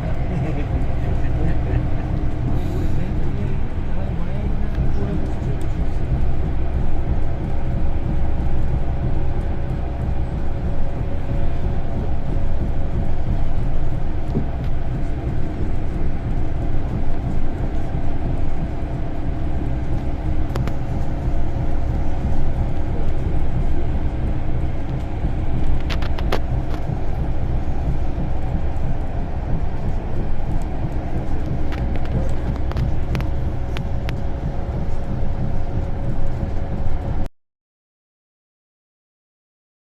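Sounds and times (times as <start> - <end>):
bus running: 0.0 - 37.3.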